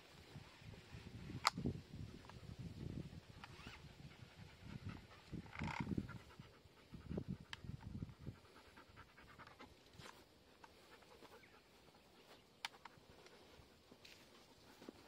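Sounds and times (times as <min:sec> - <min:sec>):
dog panting: 0:02.6 - 0:15.0.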